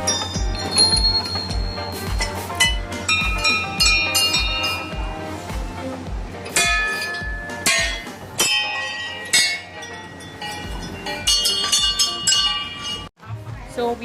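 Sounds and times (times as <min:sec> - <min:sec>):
metal bells ringing: 0:00.0 - 0:05.2, 0:06.4 - 0:13.1
background music with low beat: 0:00.0 - 0:14.0.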